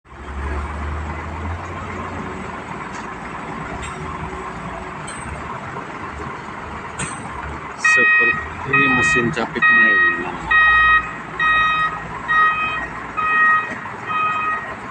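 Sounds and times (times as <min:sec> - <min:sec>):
vehicle engine and road noise: 0:00.0 - 0:14.9.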